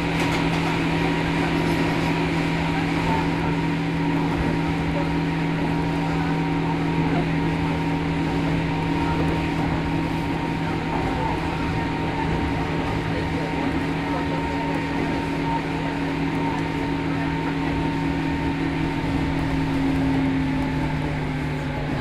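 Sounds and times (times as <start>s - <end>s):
wheels rumbling on track: 0.0s - 22.0s.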